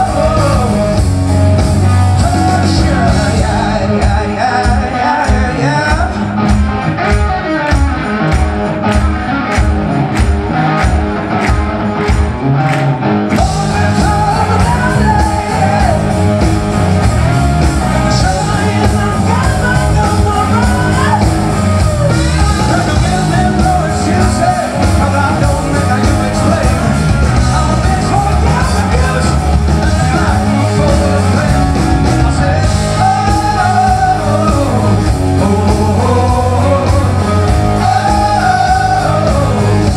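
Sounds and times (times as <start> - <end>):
person singing: 0.0 - 1.3, 2.0 - 6.4, 13.4 - 39.9
rock band playing live: 0.0 - 39.9.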